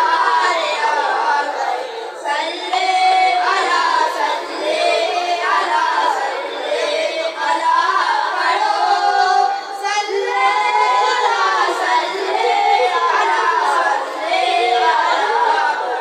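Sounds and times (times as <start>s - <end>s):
children singing: 0.0s - 16.0s.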